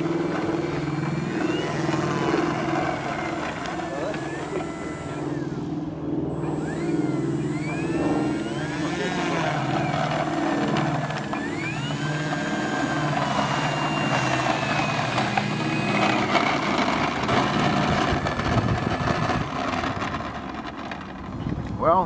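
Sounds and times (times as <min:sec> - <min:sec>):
electric motor and propeller whine: 0:00.0 - 0:22.0.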